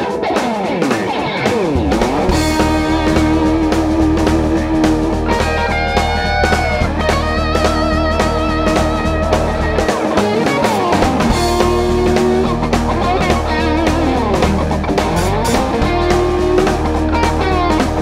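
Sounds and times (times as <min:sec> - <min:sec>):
electric guitar sliding notes: 0:00.0 - 0:18.0
rock band playing live: 0:00.0 - 0:18.0.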